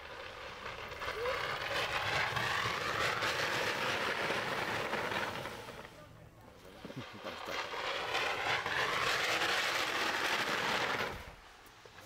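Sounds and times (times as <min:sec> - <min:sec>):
inner tube sliding down slide: 0:00.0 - 0:12.0.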